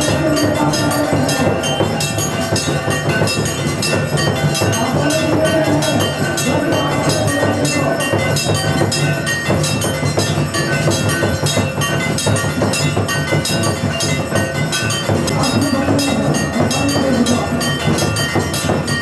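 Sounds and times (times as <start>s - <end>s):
ringing metal percussion: 0.0s - 19.0s.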